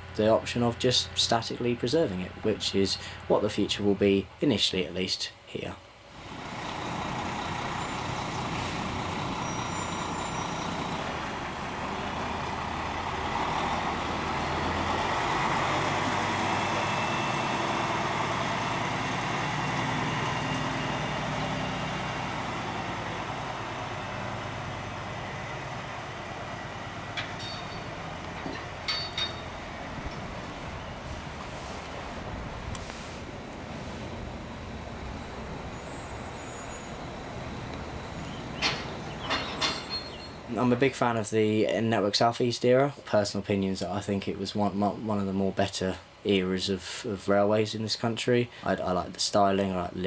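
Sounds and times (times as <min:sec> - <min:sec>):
lorry diesel engine moving: 0:00.0 - 0:04.9, 0:06.1 - 0:42.1.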